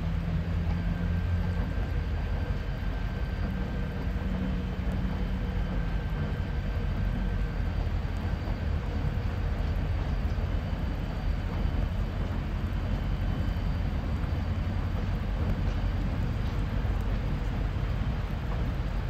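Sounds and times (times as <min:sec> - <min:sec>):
distant train rumble on bridge: 0:00.0 - 0:19.0.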